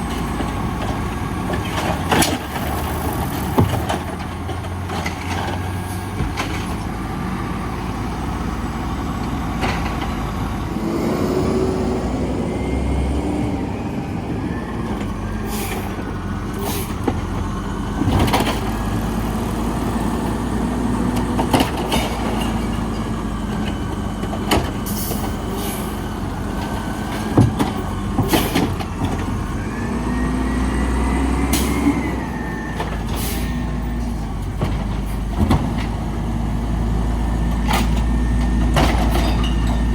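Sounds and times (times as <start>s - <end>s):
garbage truck engine rumble: 0.0s - 39.9s.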